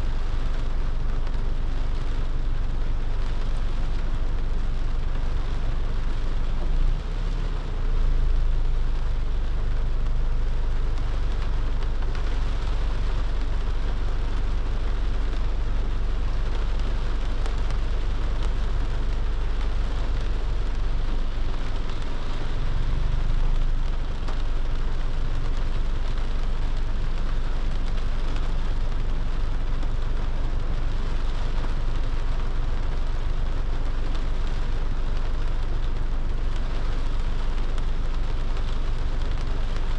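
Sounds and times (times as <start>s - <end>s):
constant low rumble: 0.0s - 39.9s
heavy rain falling: 0.0s - 39.9s.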